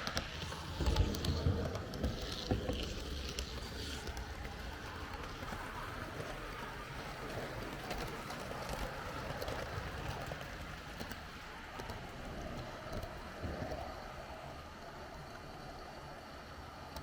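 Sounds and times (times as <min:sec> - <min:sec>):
model train rolling rumble: 0:00.0 - 0:17.0
wheels clicking over rail joints: 0:00.0 - 0:17.0.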